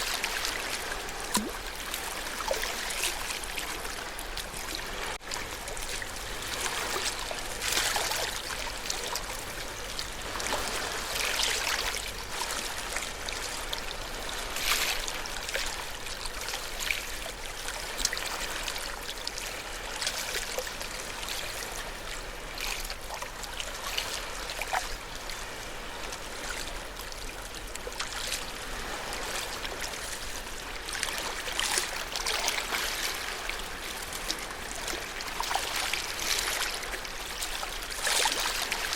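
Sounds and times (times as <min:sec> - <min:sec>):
ocean waves washing onto shore: 0:00.0 - 0:38.9.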